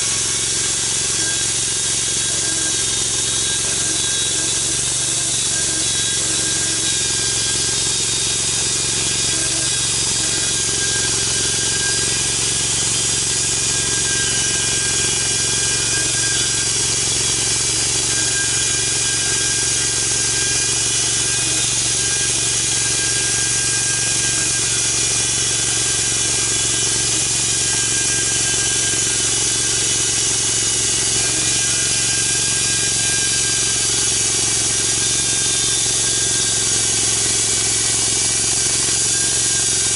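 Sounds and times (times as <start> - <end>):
log mill engine hum: 0.0 - 39.9
saw cutting log: 0.0 - 39.9.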